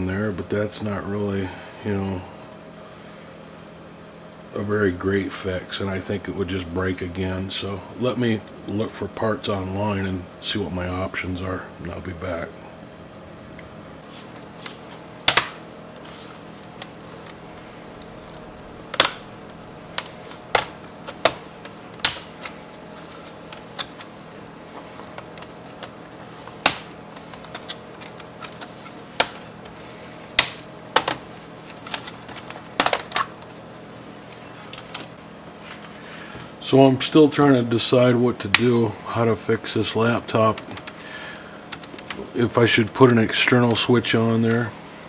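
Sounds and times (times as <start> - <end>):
low room hum: 0.0 - 45.0.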